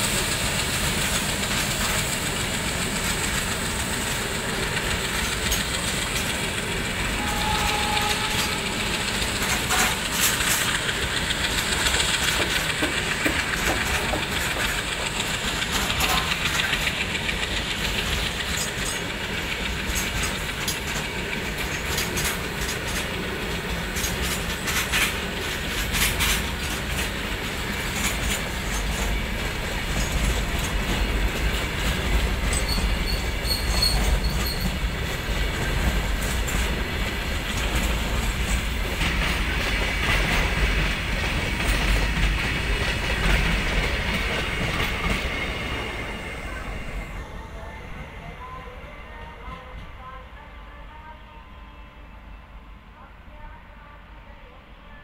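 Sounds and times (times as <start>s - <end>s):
train wheels rumbling on rails: 0.0s - 50.2s
wheels clicking over rail joints: 0.4s - 46.0s.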